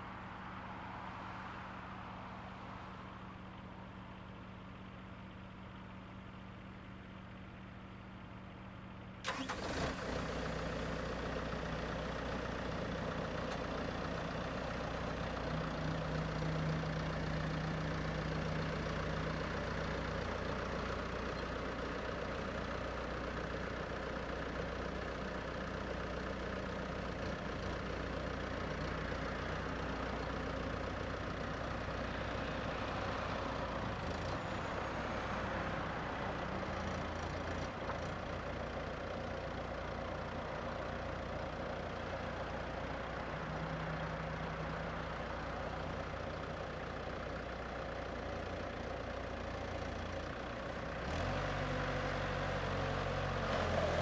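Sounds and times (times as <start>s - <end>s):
loader diesel engine running: 4.2s - 54.0s.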